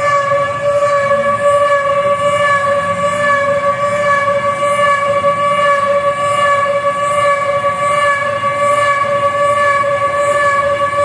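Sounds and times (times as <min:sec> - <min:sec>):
air-raid siren wailing: 0:00.0 - 0:11.0.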